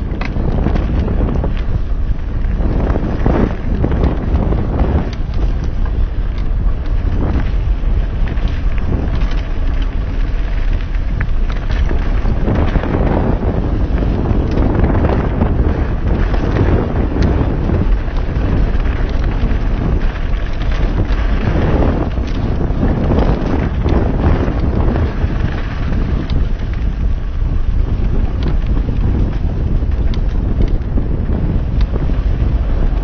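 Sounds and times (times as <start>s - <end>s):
bike clicks and rattles: 0.0s - 33.0s
tyre noise on dirt trail: 0.0s - 33.0s
wind buffeting microphone: 0.0s - 33.0s.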